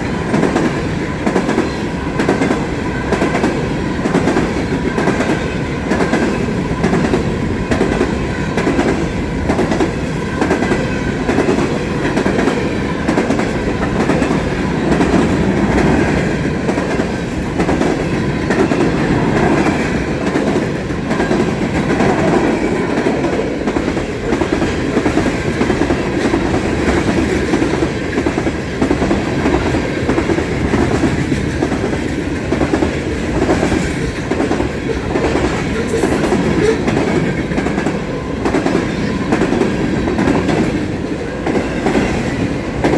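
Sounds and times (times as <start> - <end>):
freight train wheels clacking: 0.0 - 42.9
train rumble: 0.0 - 42.9.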